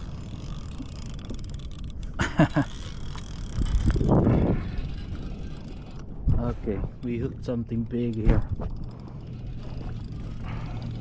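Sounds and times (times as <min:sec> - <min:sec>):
fishing reel clicking and whirring: 0:00.0 - 0:11.0.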